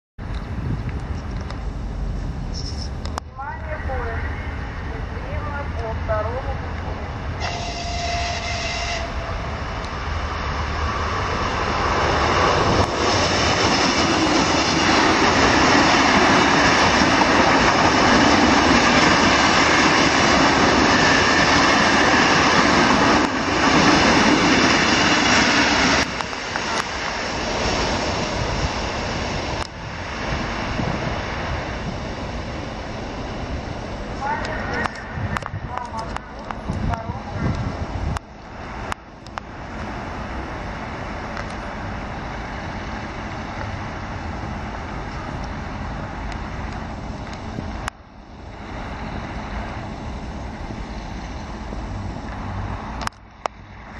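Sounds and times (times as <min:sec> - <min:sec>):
train passing at speed: 0:00.2 - 0:53.9.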